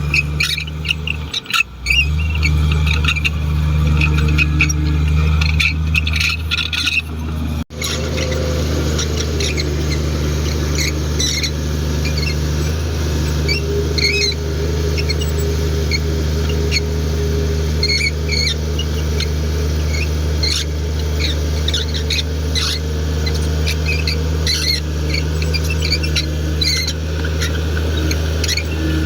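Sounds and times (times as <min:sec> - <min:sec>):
bulldozer diesel engine running: 0:00.0 - 0:29.0
short high-pitched squeaks: 0:00.0 - 0:29.0.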